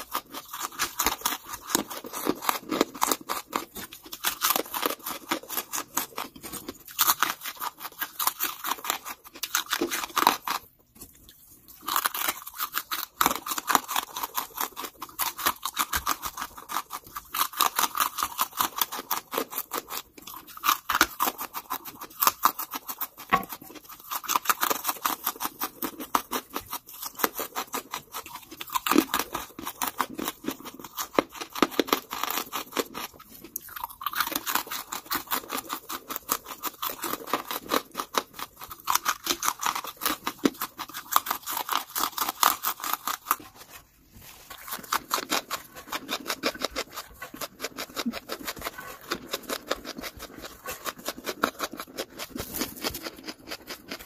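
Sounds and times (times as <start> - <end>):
charcoal being chewed: 0.0 - 54.0.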